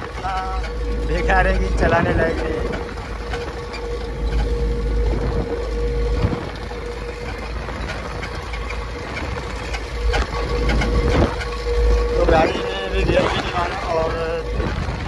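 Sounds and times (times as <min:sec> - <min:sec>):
diesel truck engine running: 0:00.0 - 0:15.0
road rumble: 0:00.0 - 0:15.0.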